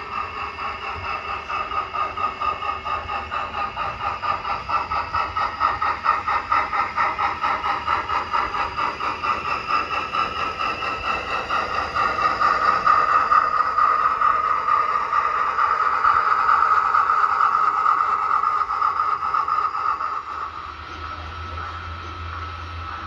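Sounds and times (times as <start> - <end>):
model train humming and pulsing: 0.0 - 23.0.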